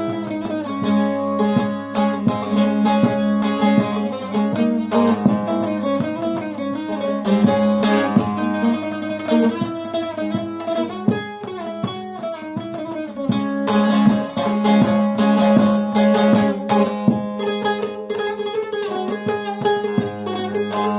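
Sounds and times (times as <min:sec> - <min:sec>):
plucked long-neck lute melody: 0:00.0 - 0:20.9.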